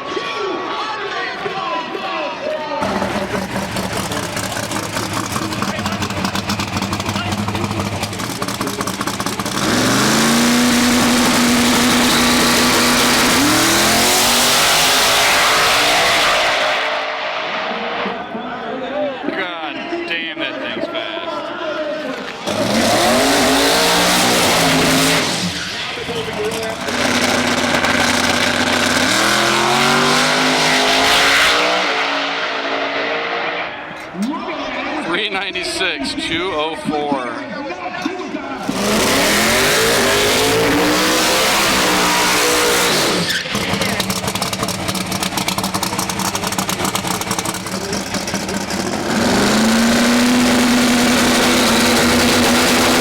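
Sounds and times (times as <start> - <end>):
drag car engine at full throttle: 2.8 - 18.4, 22.1 - 35.0, 38.5 - 53.0.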